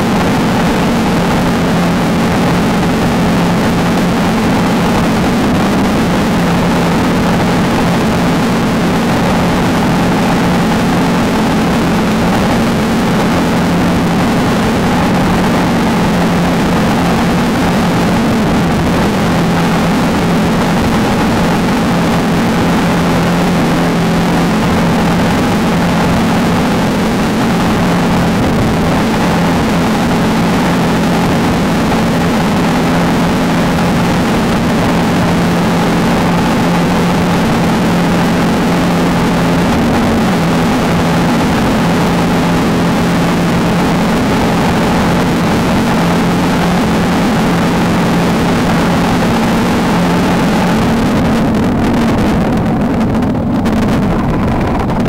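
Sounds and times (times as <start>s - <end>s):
race vehicle engine drone: 0.0s - 55.0s
rushing noise: 0.0s - 55.0s.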